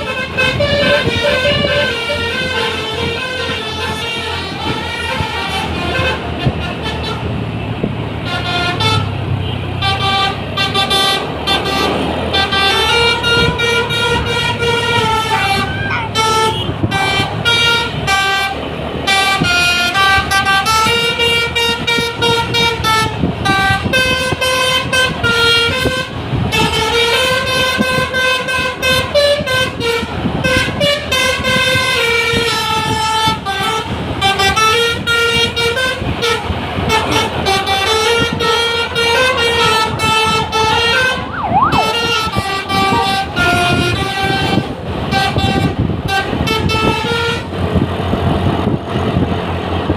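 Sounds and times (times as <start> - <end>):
bus horn playing a tune: 0.0 - 49.4
bus engine running: 0.0 - 49.9.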